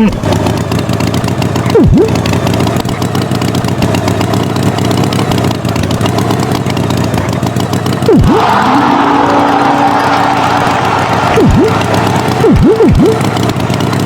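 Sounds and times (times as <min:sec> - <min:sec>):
engine running with pulsing note: 0:00.0 - 0:14.0.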